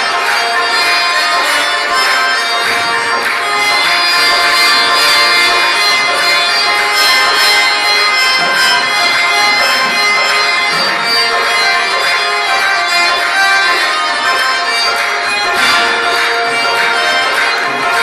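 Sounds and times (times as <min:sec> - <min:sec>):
distant harmonium chords: 0:00.0 - 0:18.0.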